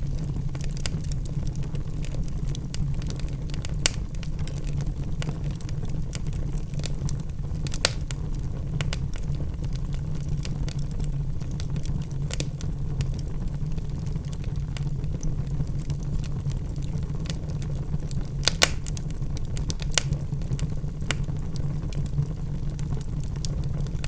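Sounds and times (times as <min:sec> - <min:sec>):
wood logs burning and crackling: 0:00.0 - 0:24.0
sharp pops of fire: 0:00.1 - 0:24.0.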